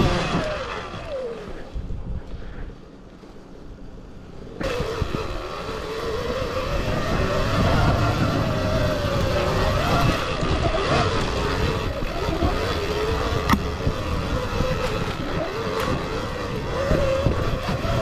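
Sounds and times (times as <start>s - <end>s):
motorcycle engine running: 0.0s - 2.0s, 4.1s - 18.0s
low rumbling noise: 0.0s - 18.0s.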